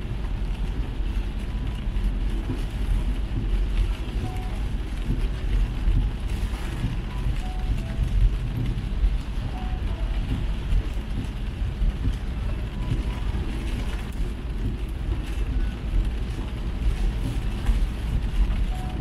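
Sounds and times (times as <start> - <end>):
car engine and tyres rumbling: 0.0 - 19.0
rain hissing on car: 0.0 - 19.0.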